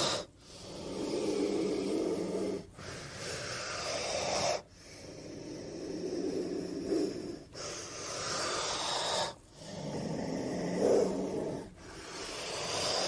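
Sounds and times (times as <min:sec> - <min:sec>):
creature snorting breaths: 0:00.0 - 0:13.0.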